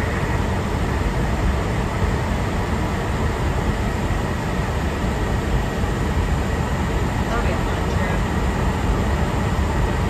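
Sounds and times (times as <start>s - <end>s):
airliner cabin airflow and engine noise: 0.0s - 10.0s.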